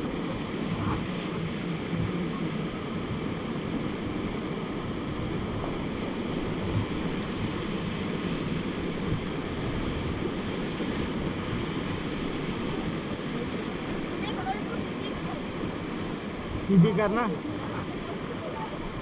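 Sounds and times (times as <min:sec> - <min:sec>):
rushing river water: 0:00.0 - 0:19.0
wind buffeting microphone: 0:00.0 - 0:19.0.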